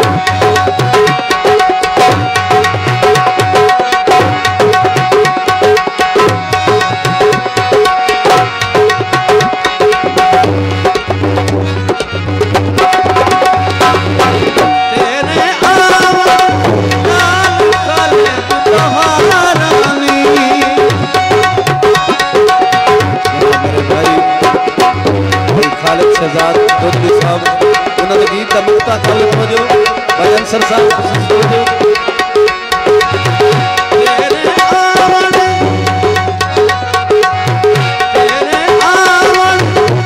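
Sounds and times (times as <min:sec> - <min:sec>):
hand drums fast rhythm: 0:00.0 - 0:40.0
harmonium drone and melody: 0:00.0 - 0:40.0.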